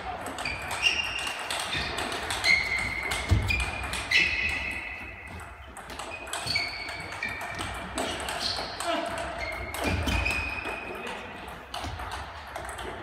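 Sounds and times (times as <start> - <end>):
table tennis balls clicking: 0.0 - 13.0
shoes squeaking on floor: 0.3 - 12.1.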